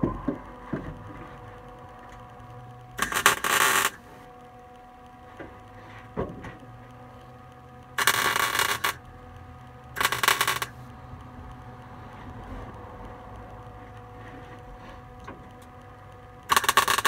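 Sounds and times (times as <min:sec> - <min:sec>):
welder crackling bursts: 0:01.0 - 0:17.0.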